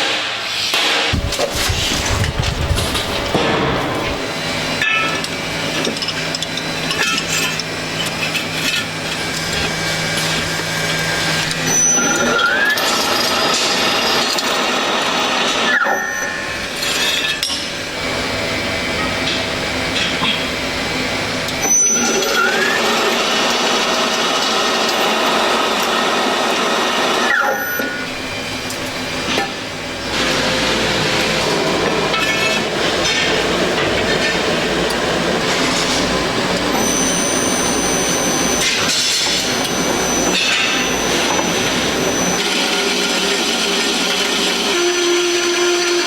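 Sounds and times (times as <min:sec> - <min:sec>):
power tools: 0:00.0 - 0:46.0.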